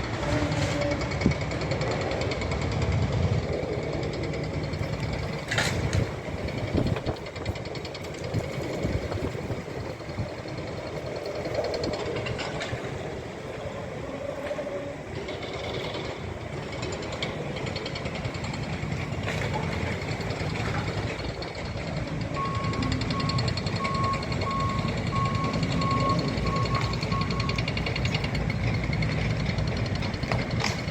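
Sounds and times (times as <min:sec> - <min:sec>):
roller coaster rumbling on track: 0:00.0 - 0:30.9.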